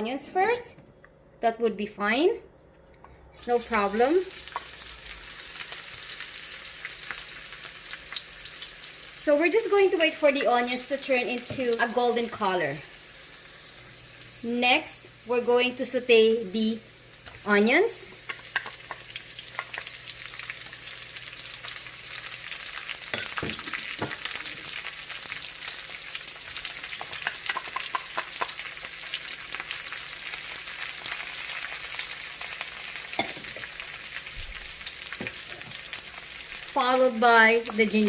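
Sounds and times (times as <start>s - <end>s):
onions frying in oil: 3.4s - 38.0s.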